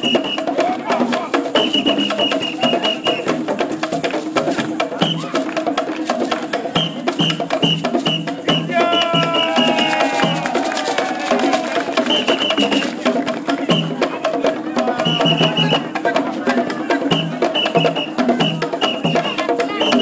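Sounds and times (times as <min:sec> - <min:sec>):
hand drums fast rhythm: 0:00.0 - 0:20.0.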